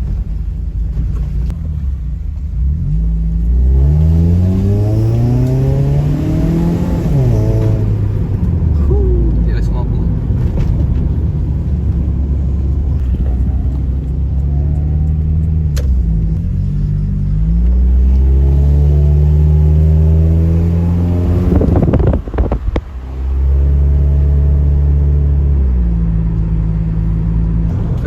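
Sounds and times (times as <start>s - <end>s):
car engine under load: 0.0s - 28.0s
road rumble: 0.0s - 28.0s.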